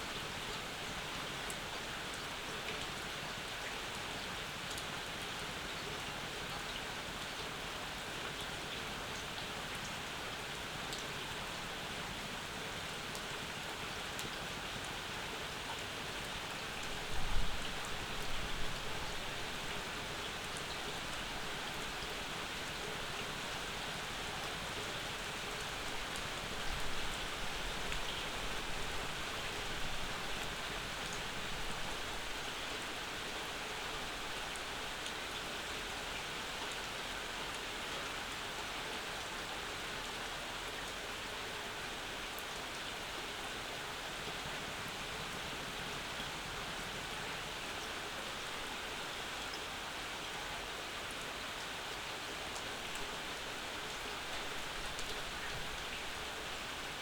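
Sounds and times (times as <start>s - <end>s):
rain falling: 0.1s - 57.0s.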